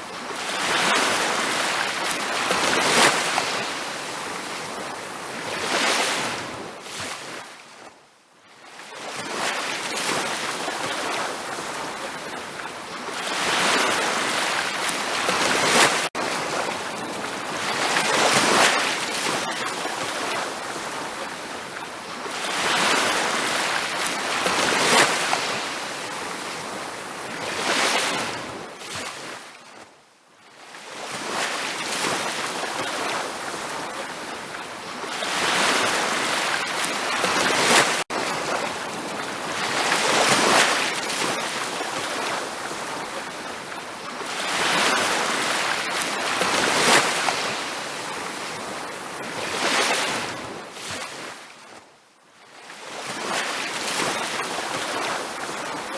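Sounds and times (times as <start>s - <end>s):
ocean waves breaking: 0.0s - 7.6s, 8.7s - 29.5s, 30.6s - 51.6s, 52.6s - 55.9s.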